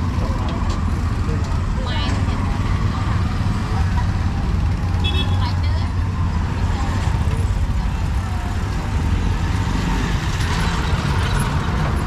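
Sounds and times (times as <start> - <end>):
rumble of passing traffic: 0.0 - 12.0.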